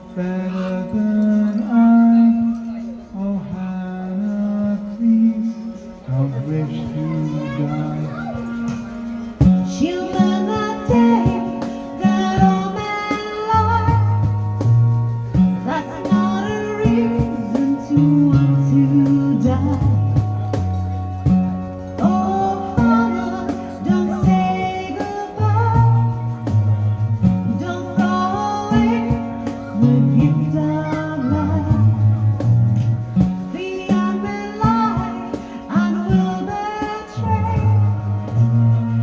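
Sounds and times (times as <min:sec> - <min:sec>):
person singing: 0:00.0 - 0:32.5, 0:33.2 - 0:39.0
acoustic guitar: 0:00.0 - 0:39.0
bass line: 0:06.1 - 0:39.0.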